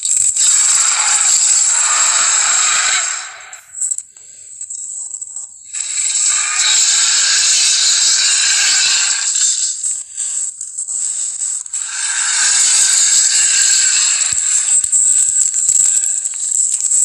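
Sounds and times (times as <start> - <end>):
creature rattling hiss: 0.2 - 3.8, 5.7 - 17.0.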